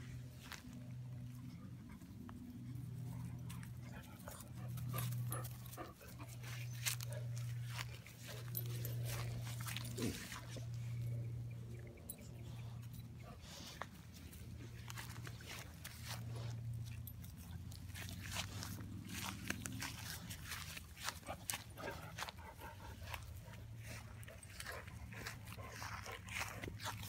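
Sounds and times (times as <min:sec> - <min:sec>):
dogs being petted: 0:00.0 - 0:27.0
low hum: 0:00.0 - 0:27.0.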